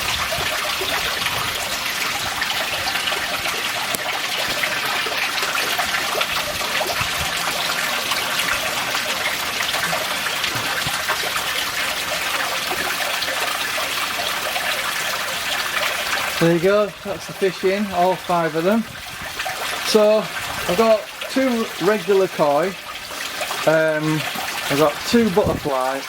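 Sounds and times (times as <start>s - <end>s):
water trickling into pond: 0.0s - 26.0s.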